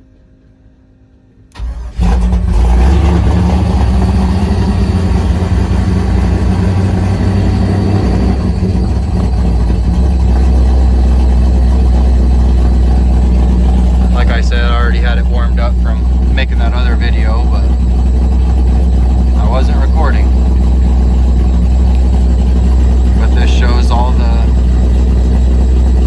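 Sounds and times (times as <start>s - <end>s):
engine cranking: 1.5s - 26.0s
engine idling loudly: 1.6s - 26.0s.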